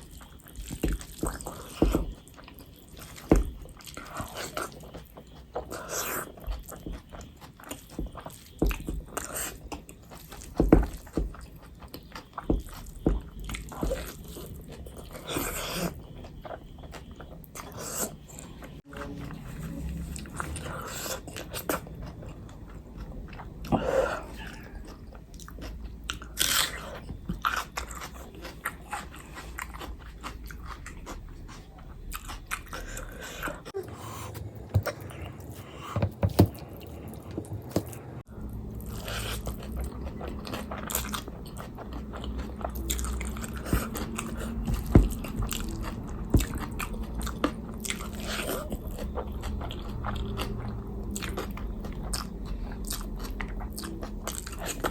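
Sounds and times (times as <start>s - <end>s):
chewing and biting: 0.0s - 54.9s.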